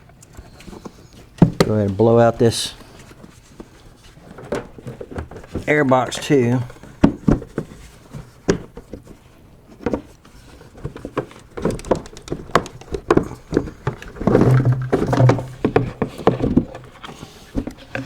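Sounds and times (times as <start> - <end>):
plastic parts clunking and rattling: 0.0 - 18.0.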